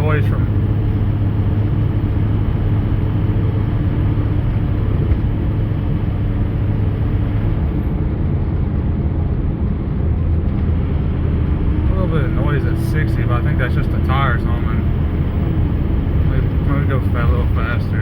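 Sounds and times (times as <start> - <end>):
faint low tire hum: 0.0 - 18.0
pickup truck road rumble: 0.0 - 18.0.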